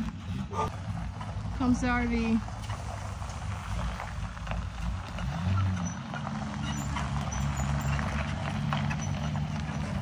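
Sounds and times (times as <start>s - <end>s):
motorhome engine running: 0.0s - 10.0s
tyres crunching over gravel: 0.0s - 10.0s.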